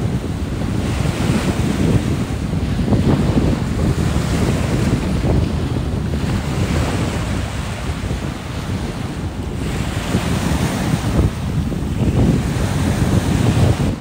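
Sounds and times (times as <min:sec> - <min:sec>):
lake waves washing onto sand: 0:00.0 - 0:14.0
wind buffeting microphone: 0:00.0 - 0:14.0.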